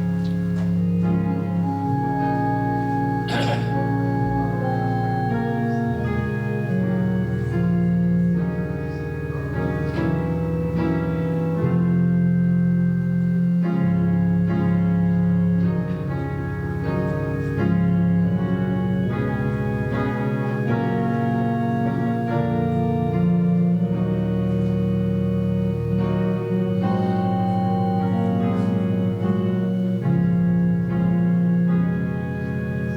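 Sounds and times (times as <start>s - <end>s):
organ playing sustained chords: 0.0s - 32.9s.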